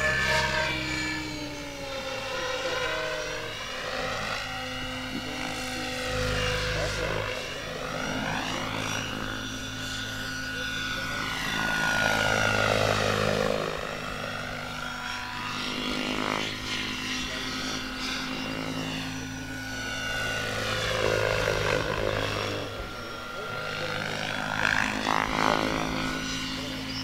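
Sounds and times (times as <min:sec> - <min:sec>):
high motor whine: 0:00.0 - 0:27.0
model helicopter rotor hum: 0:00.0 - 0:27.0.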